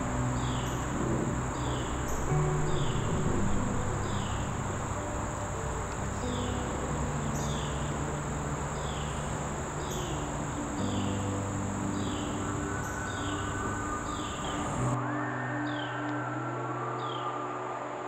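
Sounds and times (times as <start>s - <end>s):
insects droning: 0.0s - 18.0s
soft background music: 0.0s - 18.0s.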